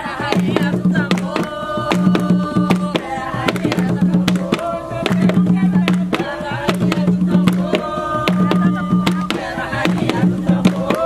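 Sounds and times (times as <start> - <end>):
hand drums: 0.0 - 11.0
voices singing together: 0.0 - 11.0.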